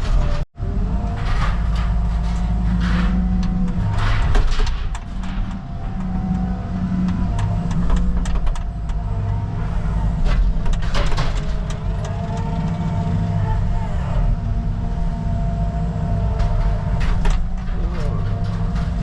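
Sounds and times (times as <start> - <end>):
debris cracking and crunching: 0.0 - 9.4, 10.0 - 13.5, 16.2 - 19.0
diesel engine running: 0.0 - 19.0.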